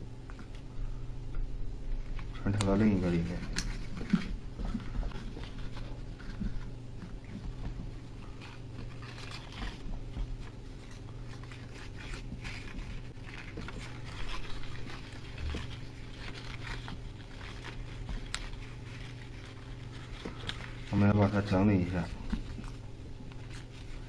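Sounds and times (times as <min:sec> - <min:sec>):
low hum: 0:00.0 - 0:24.0
paper rustling and crinkling: 0:01.9 - 0:24.0.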